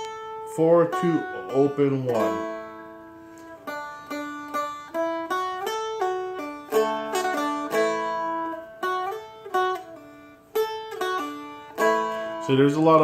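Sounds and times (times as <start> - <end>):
plucked string instrument melody: 0.0 - 13.0.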